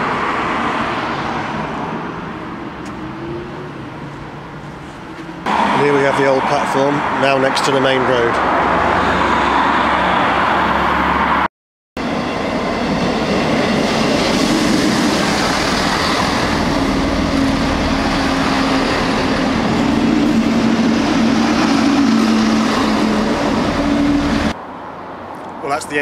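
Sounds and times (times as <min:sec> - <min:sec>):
train engines droning: 0:00.0 - 0:11.4, 0:12.0 - 0:24.6.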